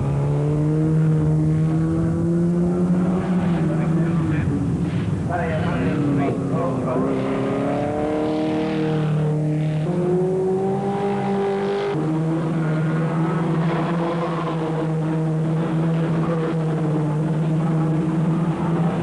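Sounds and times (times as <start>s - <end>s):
other cars' engines: 0.0s - 19.0s
racing car engines accelerating: 0.0s - 19.0s.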